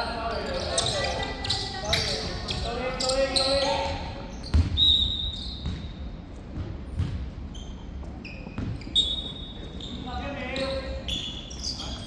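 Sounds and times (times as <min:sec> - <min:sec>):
shoes squeaking on court floor: 0:00.3 - 0:12.0.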